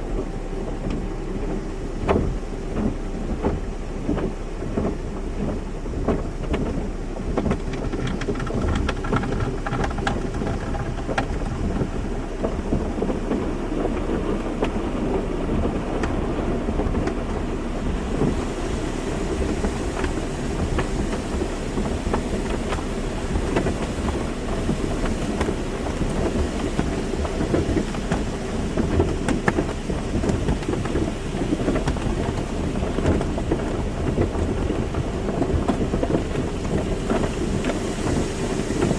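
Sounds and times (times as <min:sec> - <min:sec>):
low machinery rumble: 0:00.0 - 0:38.9
water spray drumming on car: 0:00.0 - 0:38.9.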